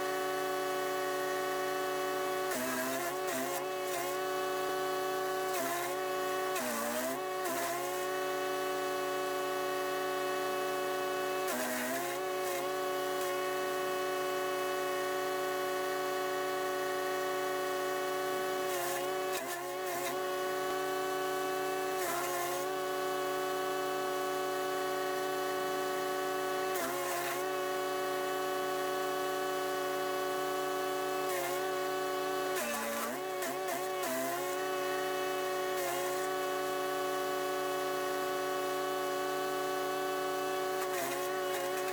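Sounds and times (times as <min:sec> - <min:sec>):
wood chipper engine whine: 0:03.1 - 0:41.9.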